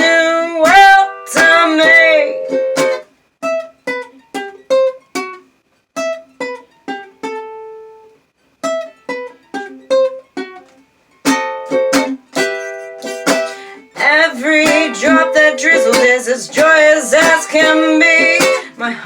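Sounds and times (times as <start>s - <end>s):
plucked acoustic string instrument: 0.0s - 19.0s.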